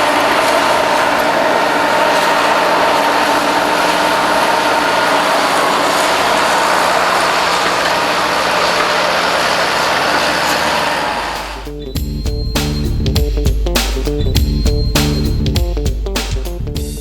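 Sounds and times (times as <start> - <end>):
harvest machinery droning: 0.0 - 15.6
machinery whining tones: 0.0 - 15.6.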